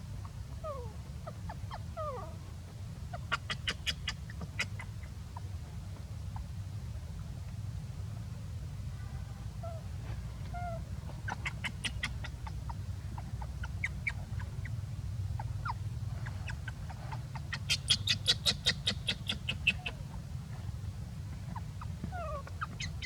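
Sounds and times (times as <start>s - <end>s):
steady low rumble: 4.3s - 23.0s.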